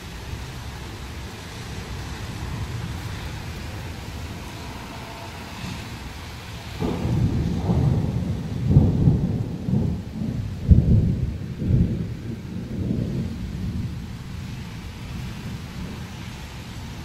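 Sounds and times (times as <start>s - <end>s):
rolling thunder: 1.5s - 17.0s.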